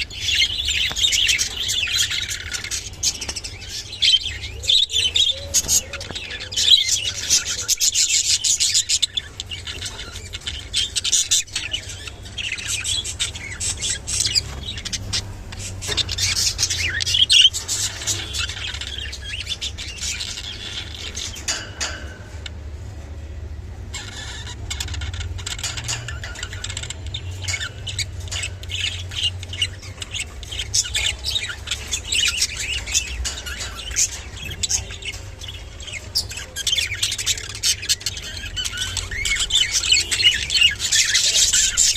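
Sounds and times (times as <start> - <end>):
budgerigars chattering: 0.0 - 22.7, 23.7 - 41.9.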